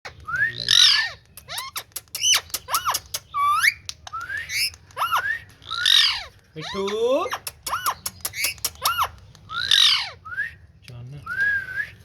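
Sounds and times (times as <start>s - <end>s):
parakeet chirps and squawks: 0.1s - 10.2s.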